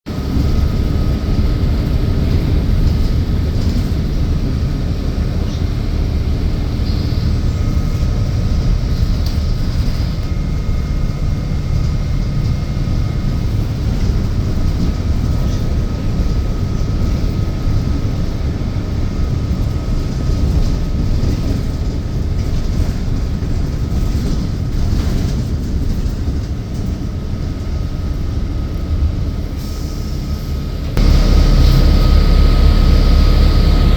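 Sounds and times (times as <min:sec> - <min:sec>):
bus engine and road rumble: 0:00.1 - 0:33.9.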